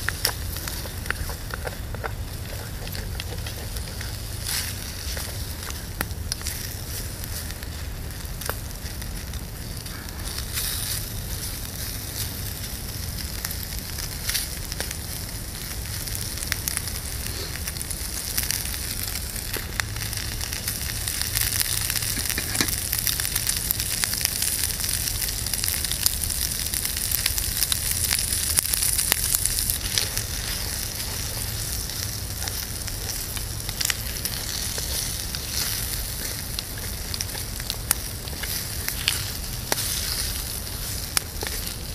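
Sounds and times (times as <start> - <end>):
bacon sizzling in a frying pan: 0.0 - 41.9.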